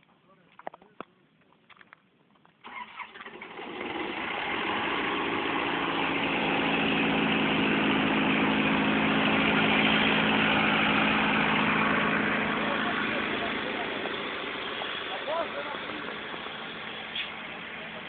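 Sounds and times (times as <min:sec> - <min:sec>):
machine engine humming: 0:03.3 - 0:18.0.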